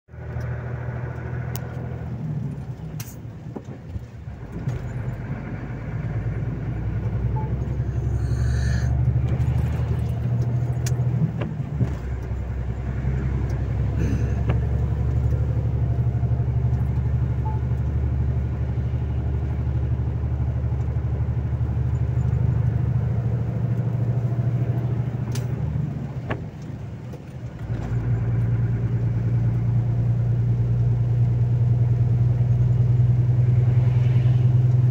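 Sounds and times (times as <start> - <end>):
diesel truck engine drone: 0.1 - 34.9.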